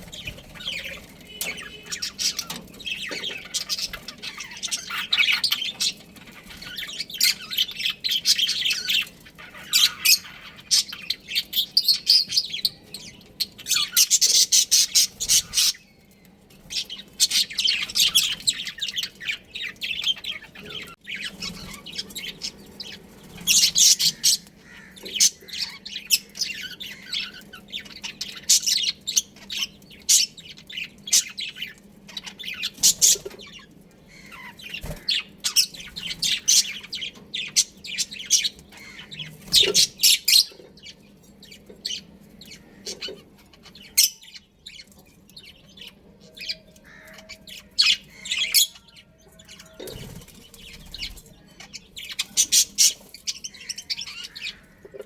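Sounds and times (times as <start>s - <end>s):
budgerigars chattering and chirping: 0.0s - 55.0s.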